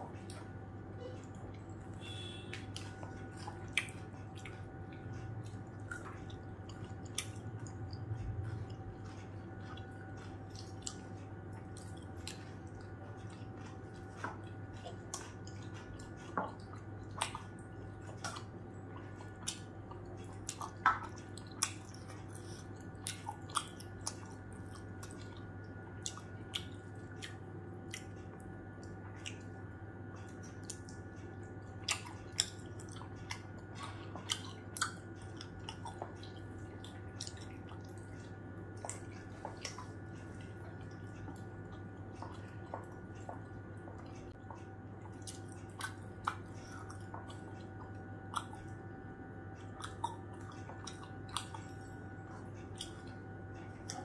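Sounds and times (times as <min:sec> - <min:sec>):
low hum: 0:00.0 - 0:54.0
person chewing: 0:00.1 - 0:54.0.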